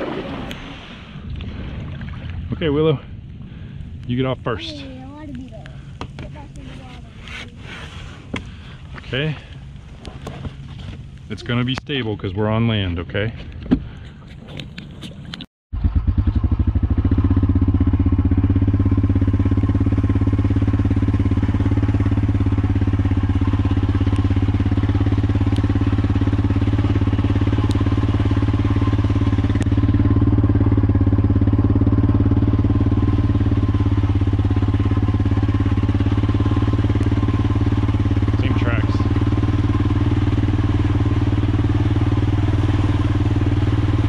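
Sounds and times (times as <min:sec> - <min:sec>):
atv engine running: 0:02.6 - 0:13.2, 0:15.8 - 0:44.0.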